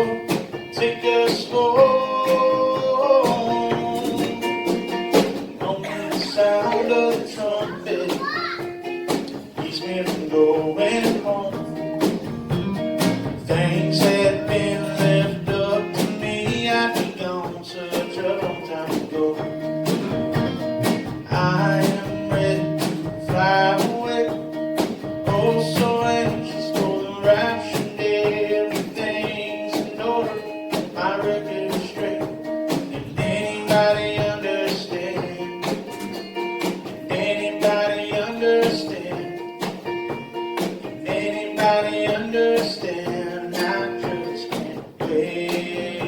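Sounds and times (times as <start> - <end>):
country gospel song with guitar: 0.0 - 46.0.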